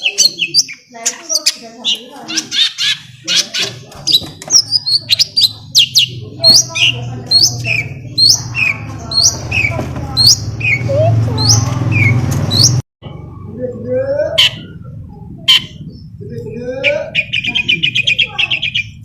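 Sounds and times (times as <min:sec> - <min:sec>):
bird singing: 0:00.0 - 0:19.0.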